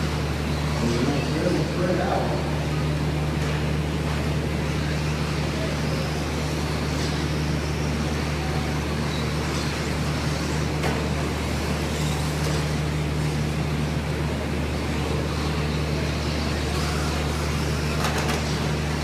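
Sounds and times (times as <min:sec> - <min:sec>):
low hum in hall: 0:00.0 - 0:19.0.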